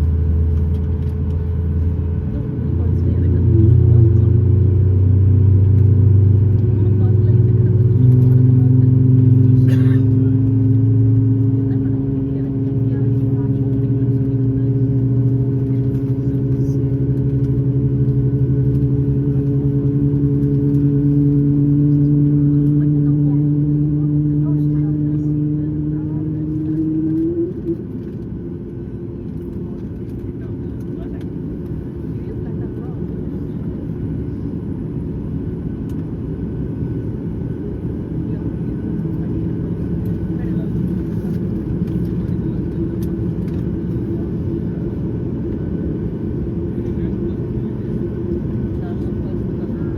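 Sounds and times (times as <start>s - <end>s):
jet engines droning: 0.0s - 49.9s.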